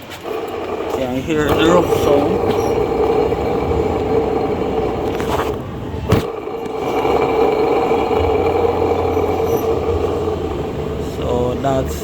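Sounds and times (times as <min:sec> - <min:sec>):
pulley bearing rough running noise: 0:00.0 - 0:12.0.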